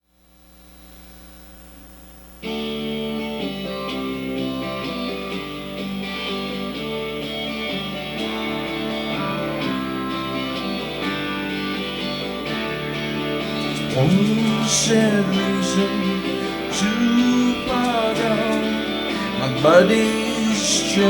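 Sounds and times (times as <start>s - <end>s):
guitar strumming chords: 2.4s - 21.0s.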